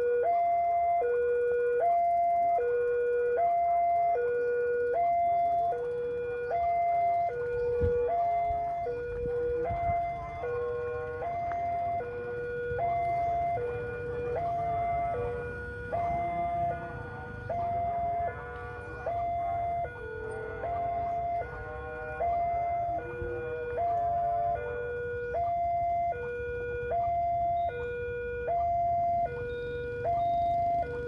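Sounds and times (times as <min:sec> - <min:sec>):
two-tone crossing alarm: 0:00.0 - 0:31.0.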